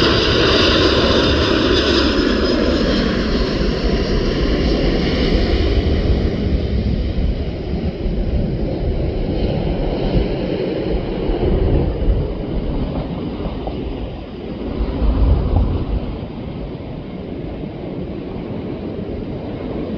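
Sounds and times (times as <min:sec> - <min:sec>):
jet airliner passing: 0:00.0 - 0:19.9
wind buffeting microphone: 0:00.0 - 0:19.9.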